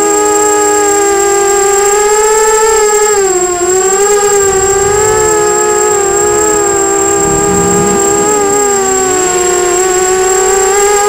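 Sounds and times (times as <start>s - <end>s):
drone motors whining: 0.9s - 11.0s
high steady whistle: 1.1s - 11.0s.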